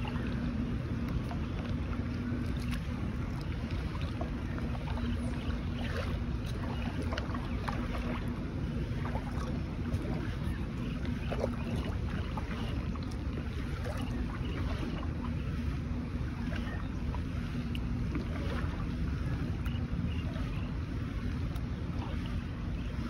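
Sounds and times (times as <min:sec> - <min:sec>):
faint low hum: 0:00.0 - 0:23.0
paddle splashes and drips: 0:00.0 - 0:23.0
water lapping against hull: 0:00.0 - 0:23.0
wind rumble on microphone: 0:00.0 - 0:23.0.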